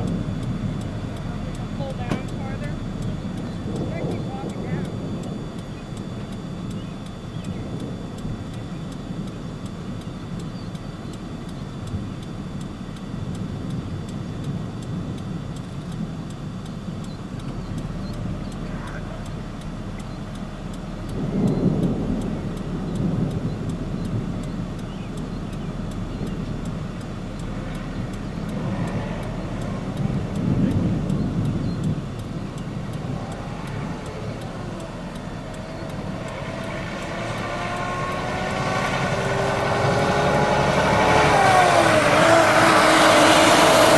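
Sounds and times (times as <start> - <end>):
car engine rumble: 0.0 - 43.9
road noise: 0.0 - 43.9.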